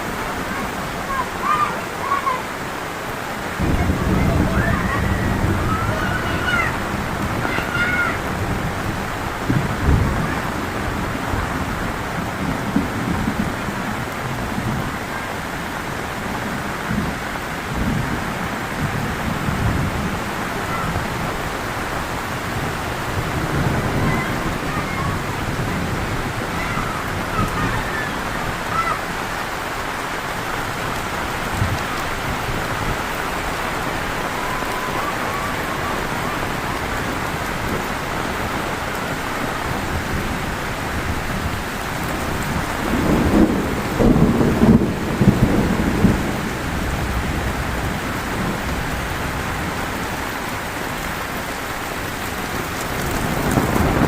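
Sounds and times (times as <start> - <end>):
heavy rain falling: 0.0 - 54.0
thunder rumbling: 3.2 - 54.0.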